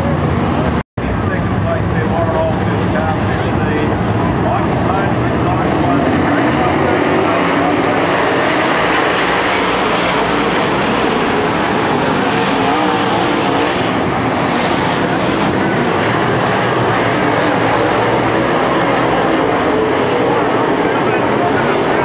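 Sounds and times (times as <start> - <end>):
race car engines roaring: 0.0 - 22.0.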